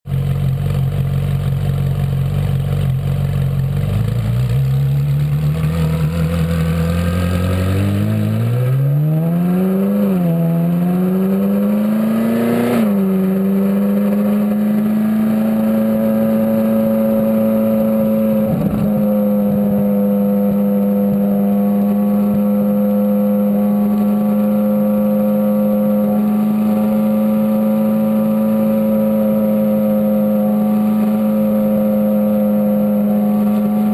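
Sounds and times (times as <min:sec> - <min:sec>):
sports car engine accelerating: 0:00.1 - 0:33.9.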